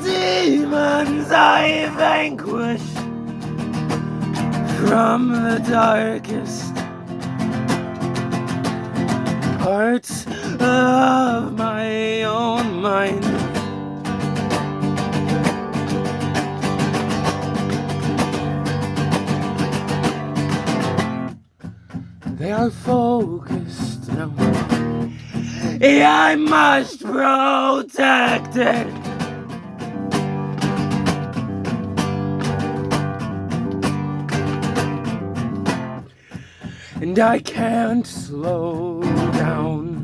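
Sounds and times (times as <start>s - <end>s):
guitar strummed fast: 0.0s - 26.9s, 28.2s - 40.0s.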